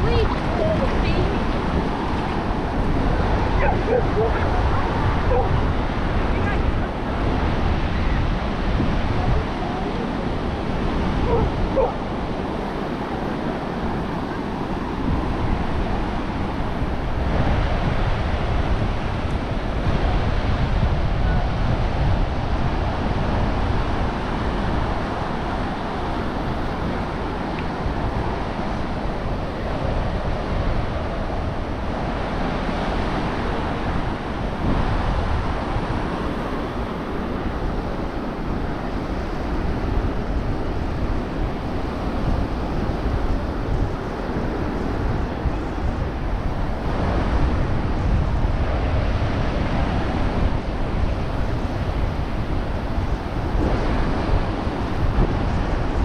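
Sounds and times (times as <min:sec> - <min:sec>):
ocean surf washing onto beach: 0:00.0 - 0:56.0
wind buffeting microphone: 0:00.0 - 0:56.0.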